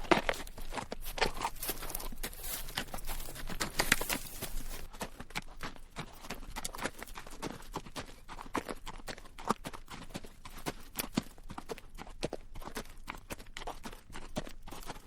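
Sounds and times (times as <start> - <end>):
horse hooves clopping on rocky dirt: 0.0 - 15.0.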